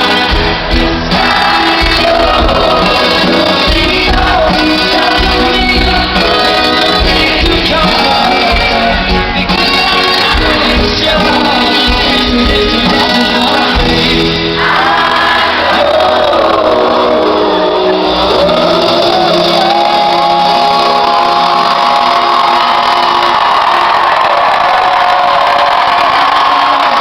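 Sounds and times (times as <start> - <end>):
crowd shouting: 0.0 - 27.0
live pop band playing: 0.0 - 27.0.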